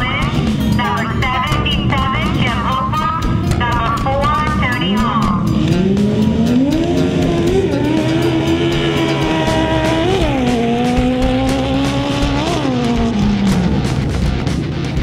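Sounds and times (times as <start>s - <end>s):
atv engines accelerating: 0.0s - 15.0s
rock music: 0.0s - 15.0s.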